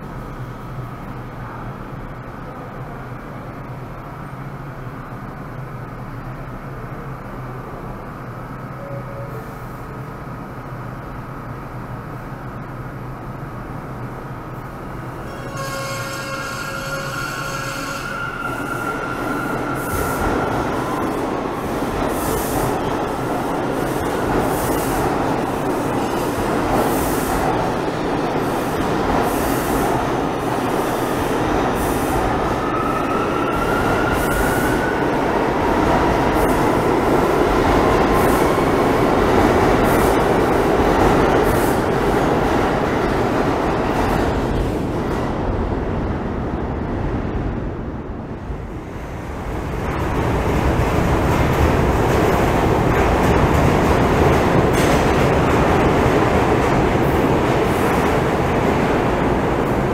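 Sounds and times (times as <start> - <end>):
subway train wheel rumble: 0.0 - 59.9.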